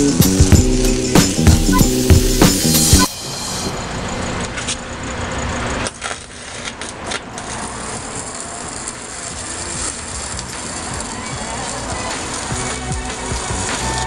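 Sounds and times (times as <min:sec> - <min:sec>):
arc welding crackling hiss: 0:00.0 - 0:04.8, 0:05.8 - 0:14.0.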